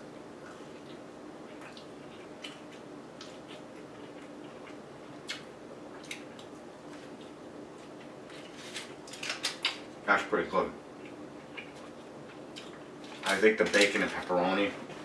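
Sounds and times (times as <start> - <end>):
man chewing pizza: 0.1 - 9.9, 10.9 - 13.4.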